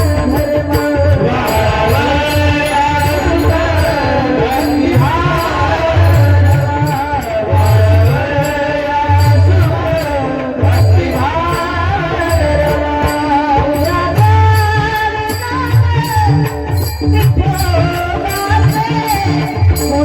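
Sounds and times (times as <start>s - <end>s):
drum beat: 0.0s - 20.0s.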